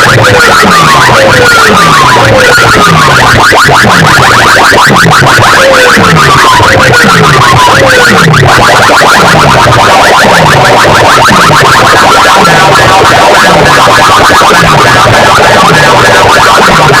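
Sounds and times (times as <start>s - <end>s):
fast dense high beats: 0.0s - 17.0s
loud electronic dance music: 0.0s - 17.0s.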